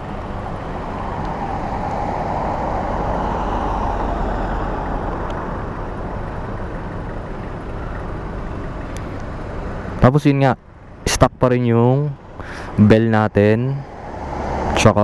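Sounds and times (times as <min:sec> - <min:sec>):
car passing: 0:00.0 - 0:10.0, 0:12.1 - 0:15.0.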